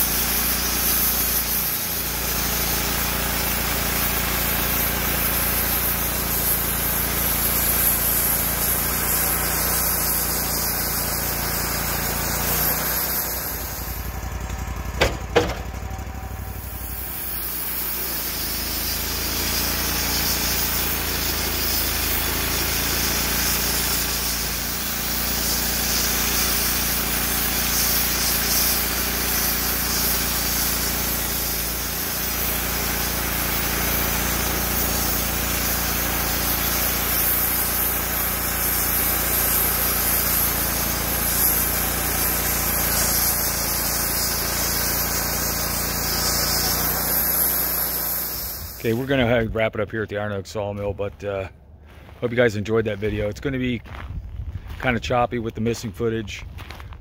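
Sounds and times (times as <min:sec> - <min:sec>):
band sawmill sawing wood: 0:00.0 - 0:49.5.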